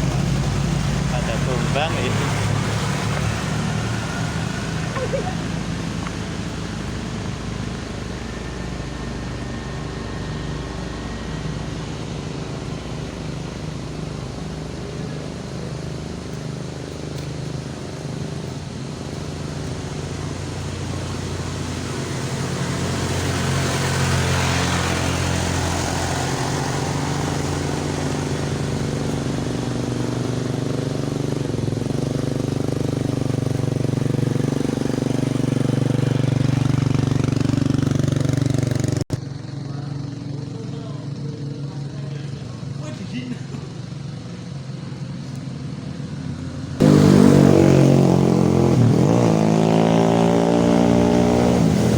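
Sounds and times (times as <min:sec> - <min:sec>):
rush of passing vehicle: 0:00.0 - 0:51.9
vehicle engines on uphill road: 0:00.0 - 0:51.9.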